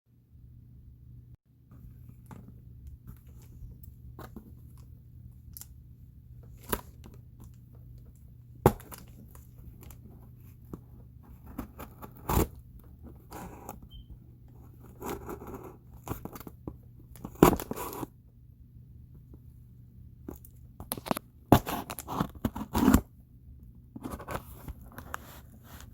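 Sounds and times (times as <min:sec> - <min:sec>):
low steady hum: 0:00.1 - 0:25.9.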